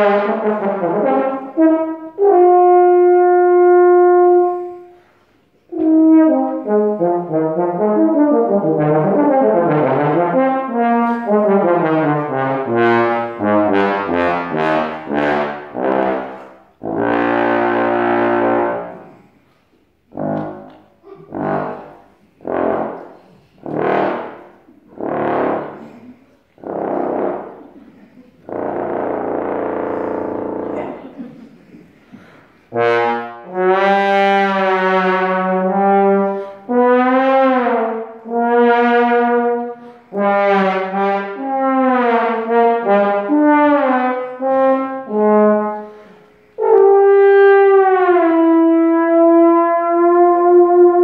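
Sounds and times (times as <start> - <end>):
bass trombone solo: 0.0 - 4.7, 5.7 - 19.1, 21.3 - 25.9, 26.6 - 27.8, 28.4 - 31.0, 32.7 - 45.8, 46.6 - 51.0.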